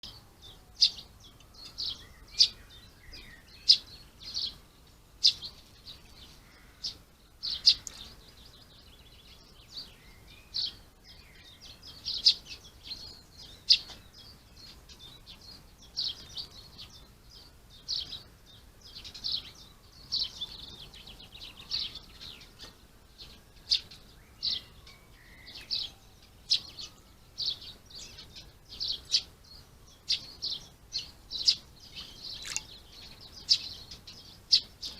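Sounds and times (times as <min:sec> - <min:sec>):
faint low bird calls: 0:00.0 - 0:34.9
small birds chirping: 0:00.0 - 0:34.9.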